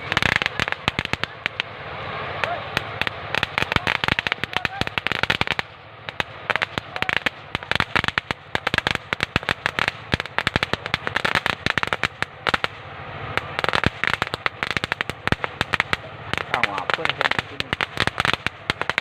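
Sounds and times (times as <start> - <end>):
fireworks crackling pops: 0.0 - 19.0.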